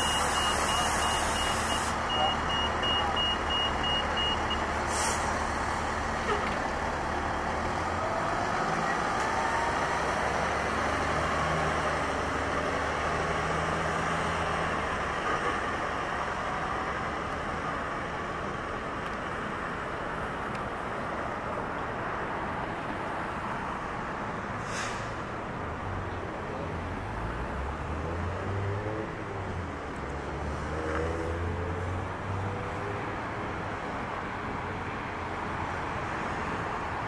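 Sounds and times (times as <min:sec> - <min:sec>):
road traffic passing: 0:00.0 - 0:37.0.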